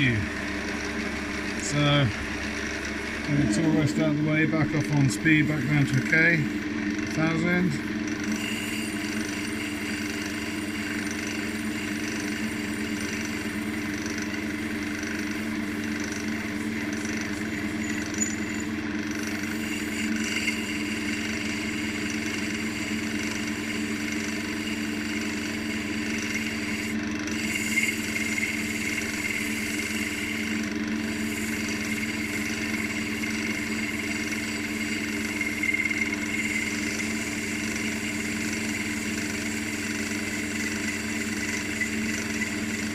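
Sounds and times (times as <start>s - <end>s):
wood lathe motor humming: 0.0s - 42.9s.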